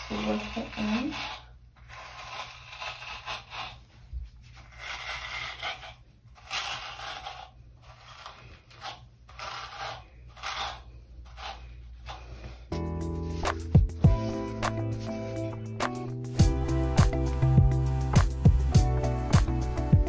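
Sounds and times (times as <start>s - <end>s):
brush scratching through hair: 0.0s - 16.4s.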